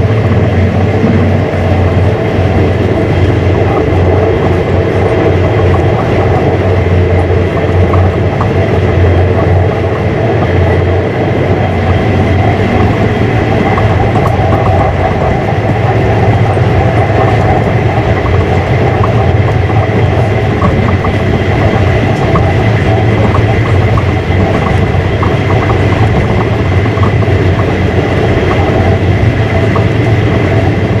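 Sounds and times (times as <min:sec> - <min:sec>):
train rumble inside carriage: 0:00.0 - 0:31.0
wheels clicking on track: 0:00.0 - 0:31.0.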